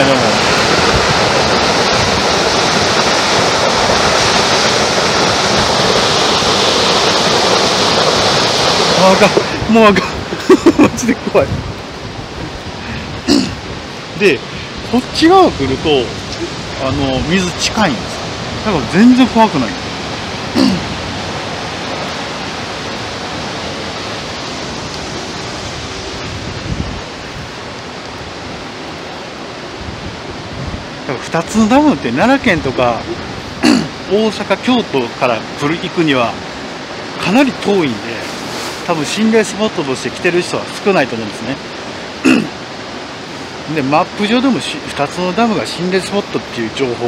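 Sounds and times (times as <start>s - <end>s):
water rushing from spillway: 0.0s - 47.0s.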